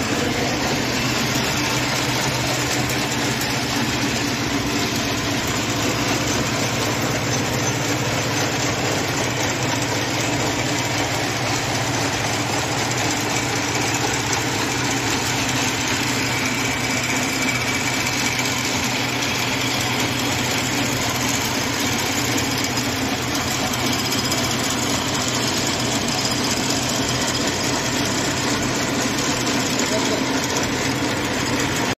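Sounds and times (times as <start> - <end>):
loom mechanical clatter: 0.0 - 31.9
motor hum: 0.0 - 31.9.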